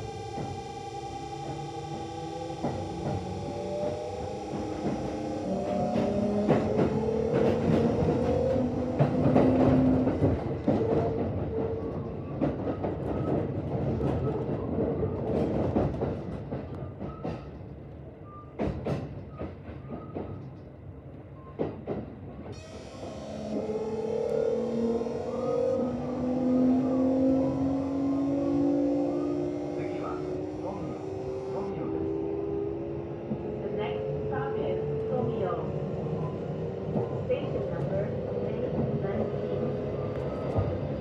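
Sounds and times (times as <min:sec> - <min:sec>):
electric train inverter whine: 0:00.0 - 0:16.0, 0:22.4 - 0:41.0.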